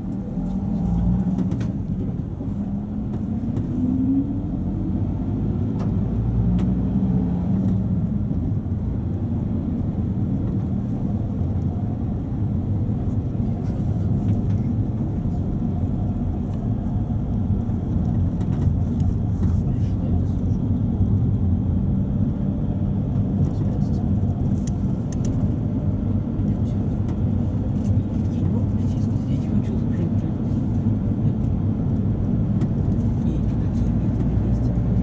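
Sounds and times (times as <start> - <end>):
minibus engine: 0.0 - 35.0
road noise: 0.0 - 35.0.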